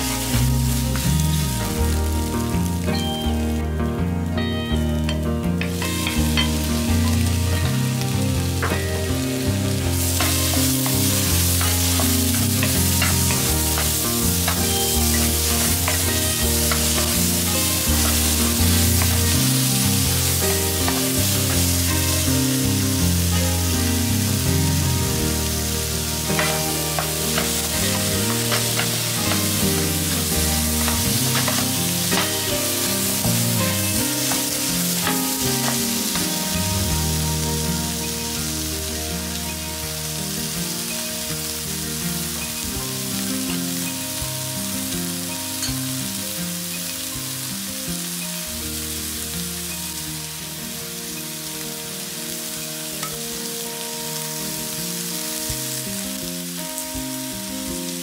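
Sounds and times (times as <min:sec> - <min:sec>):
eggs sizzling in a wok: 0:00.0 - 0:58.0.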